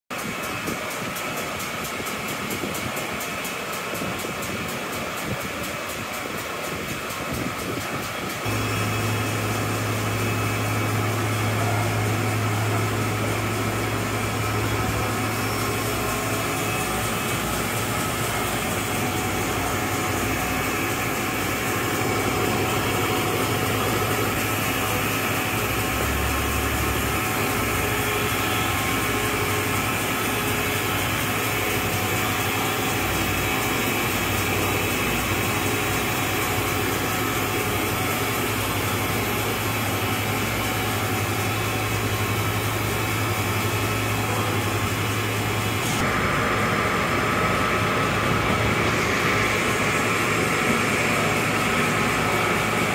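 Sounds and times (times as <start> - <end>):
grinder machine humming: 0.2 - 52.9
coolant spraying hiss: 0.3 - 52.9.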